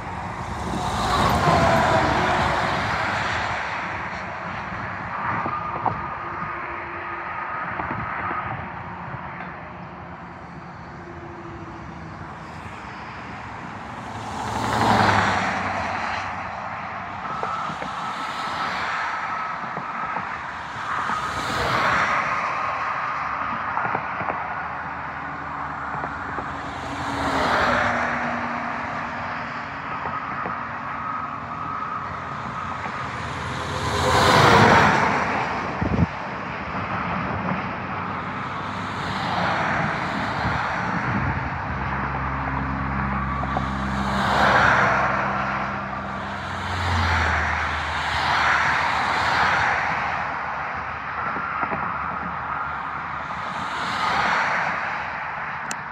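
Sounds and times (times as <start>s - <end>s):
cars and trucks passing: 0.0s - 55.9s.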